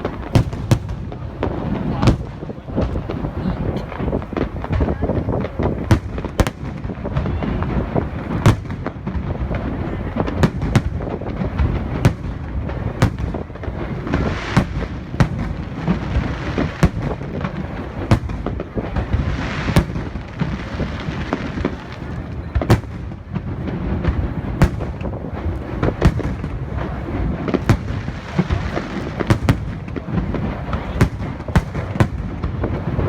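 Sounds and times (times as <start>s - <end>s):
fireworks hiss: 0.0s - 33.0s
low rumble of explosions: 0.0s - 33.0s.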